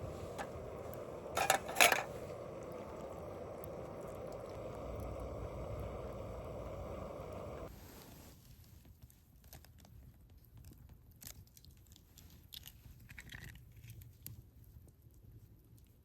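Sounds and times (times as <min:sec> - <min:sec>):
small clicks and crinkles: 0:00.3 - 0:16.0.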